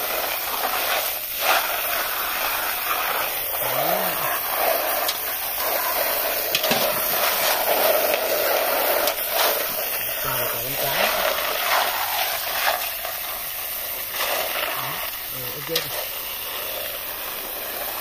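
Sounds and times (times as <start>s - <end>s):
hose water splashing: 0.0s - 18.0s.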